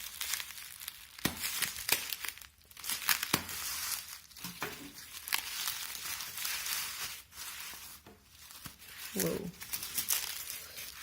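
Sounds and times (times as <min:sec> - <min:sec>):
wrapping crinkling and crackling: 0:00.0 - 0:11.0
wrapping tearing: 0:00.0 - 0:11.0.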